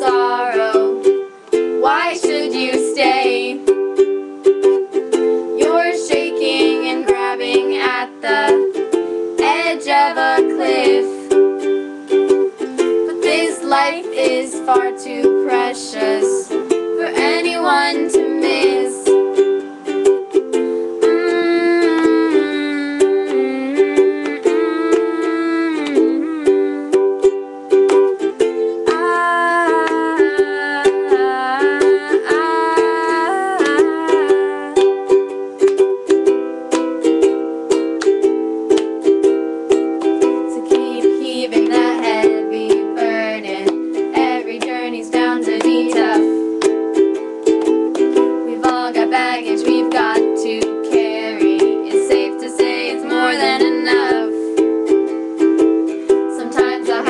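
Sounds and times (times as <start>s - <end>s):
sliding melody line: 0.0s - 57.0s
strummed string instrument: 0.0s - 57.0s.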